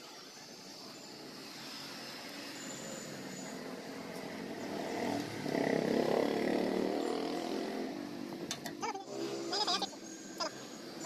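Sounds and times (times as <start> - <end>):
vehicle engine approaching: 1.1 - 11.0.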